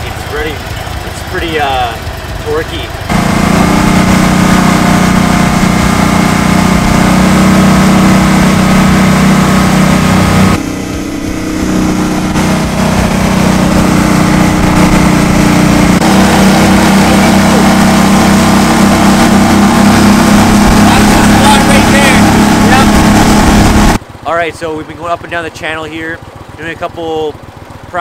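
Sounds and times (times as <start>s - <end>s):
boat motor running hard: 0.0s - 28.0s.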